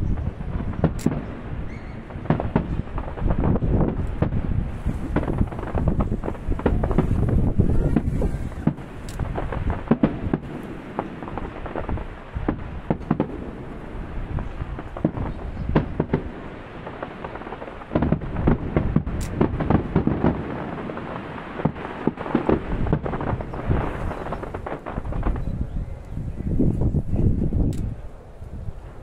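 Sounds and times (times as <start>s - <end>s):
distant booms: 0.0s - 29.0s
fireworks bangs and crackles: 0.0s - 29.0s.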